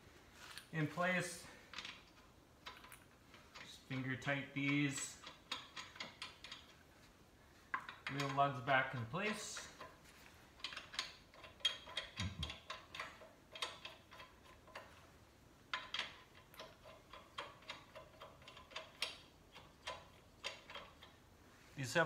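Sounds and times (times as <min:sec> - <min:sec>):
lug nuts clicking on threads: 0:01.5 - 0:06.9, 0:07.6 - 0:21.2.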